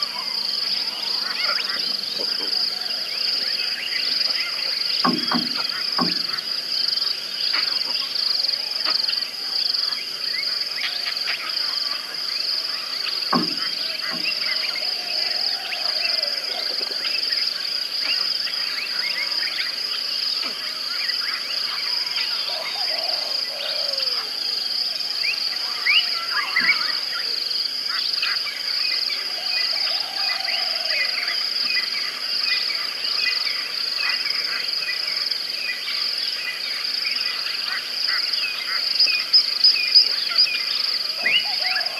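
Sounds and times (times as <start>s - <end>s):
frogs and insects trilling: 0.0s - 41.9s.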